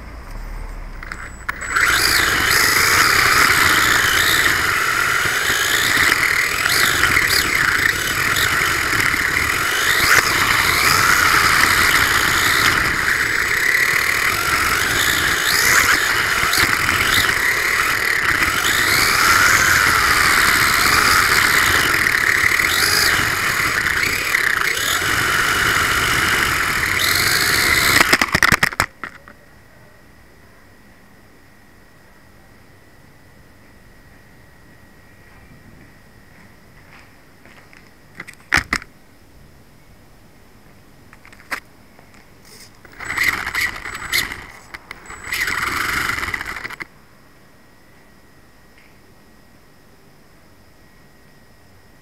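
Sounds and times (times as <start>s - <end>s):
rc car motor whine and tyre noise: 0.0s - 39.0s, 41.1s - 52.0s.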